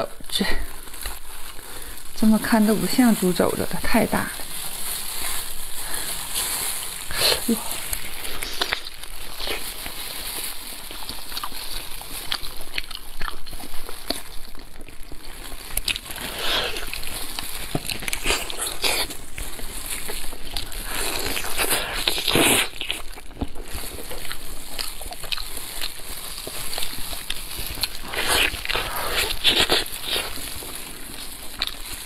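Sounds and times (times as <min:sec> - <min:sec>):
meat tearing and squelching: 0:00.0 - 0:32.0
chewing: 0:05.2 - 0:32.0.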